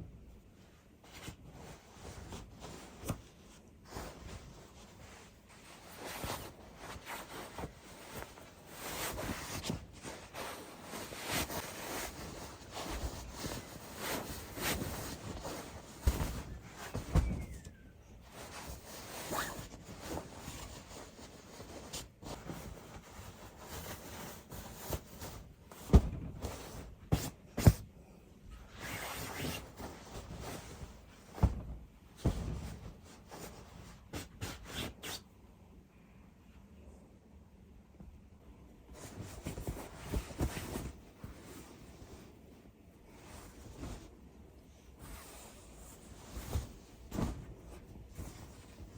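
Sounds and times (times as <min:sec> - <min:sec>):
soft rustling: 0:00.0 - 0:35.5, 0:37.9 - 0:48.9.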